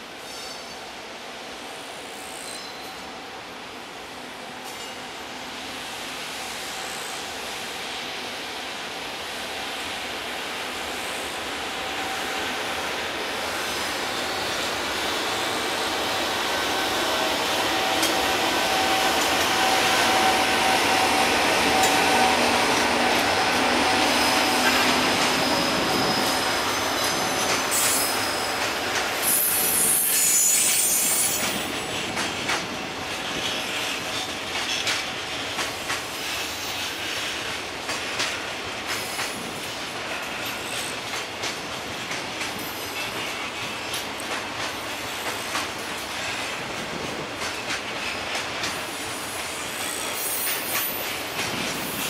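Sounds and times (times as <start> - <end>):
freight train rolling past: 0.0 - 52.0
train wheels squealing: 0.2 - 1.0, 1.8 - 3.3, 4.6 - 5.2, 5.9 - 8.3, 10.7 - 41.5, 42.3 - 46.7, 47.4 - 52.0.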